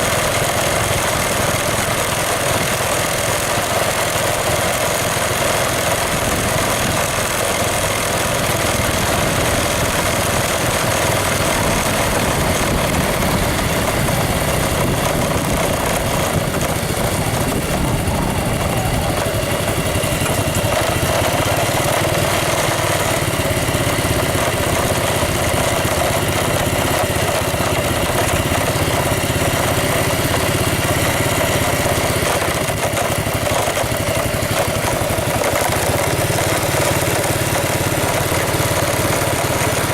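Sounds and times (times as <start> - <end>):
engine rumbling: 0.0 - 39.9.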